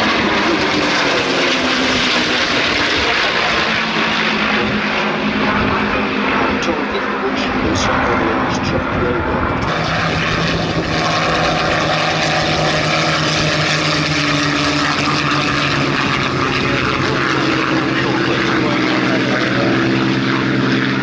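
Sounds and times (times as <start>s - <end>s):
propeller engine drone: 0.0s - 21.0s.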